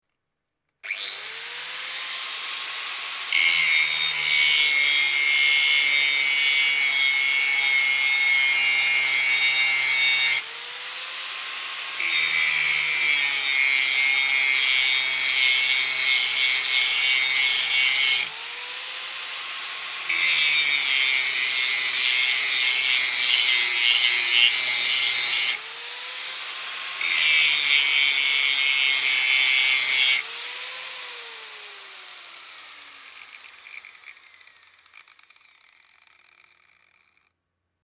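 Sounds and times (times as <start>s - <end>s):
angle grinder grinding steel: 0.8s - 37.3s
grinder motor running free: 0.8s - 37.3s.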